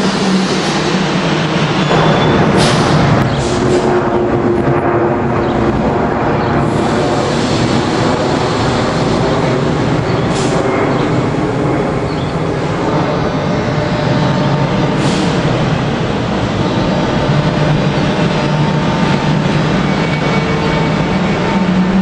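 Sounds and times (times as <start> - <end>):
electric locomotive machinery whirring: 0.0 - 22.0.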